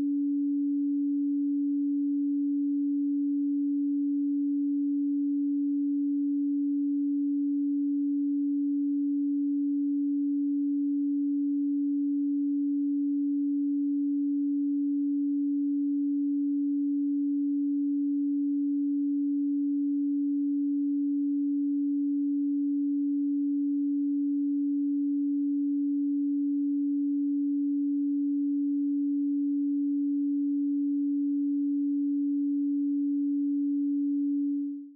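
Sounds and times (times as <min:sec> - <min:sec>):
pure sine tone: 0:00.0 - 0:34.9.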